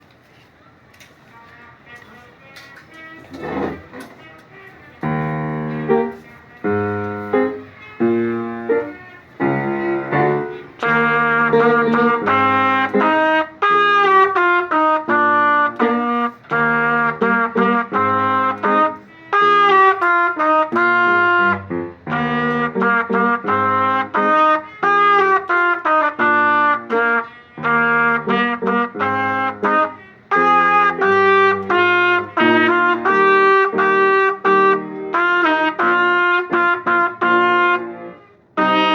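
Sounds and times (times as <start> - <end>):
concert band music: 5.0 - 38.9.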